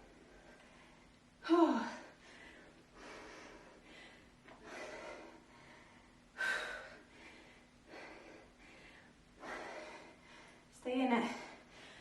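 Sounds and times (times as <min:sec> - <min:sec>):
woman breathing hard: 0:00.0 - 0:12.0.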